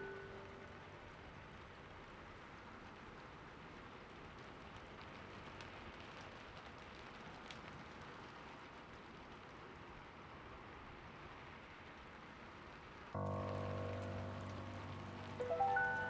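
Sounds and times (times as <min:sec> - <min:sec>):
raindrop ticks: 0:00.0 - 0:16.0
soft rainfall hiss: 0:00.0 - 0:16.0.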